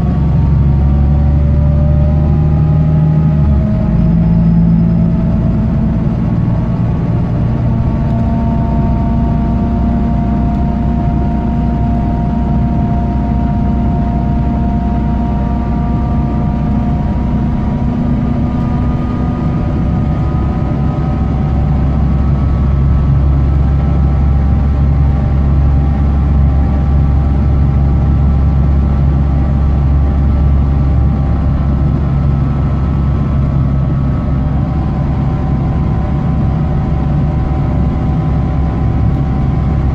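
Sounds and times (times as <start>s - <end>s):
bus engine low drone: 0.0s - 39.9s.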